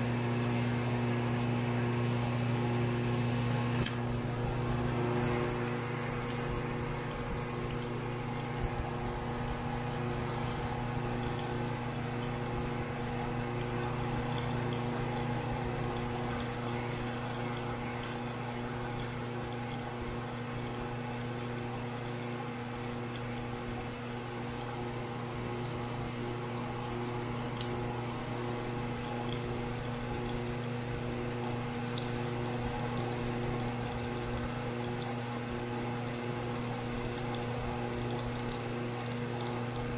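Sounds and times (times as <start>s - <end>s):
grinder motor hum with hiss: 0.0s - 39.9s.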